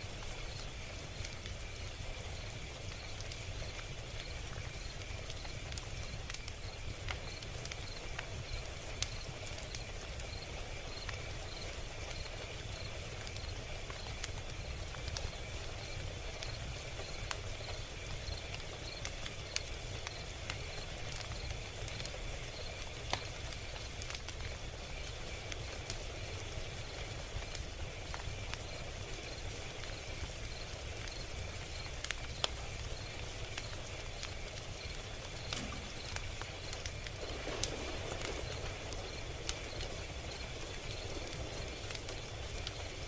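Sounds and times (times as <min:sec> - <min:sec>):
log fire crackling: 0:00.0 - 0:43.0.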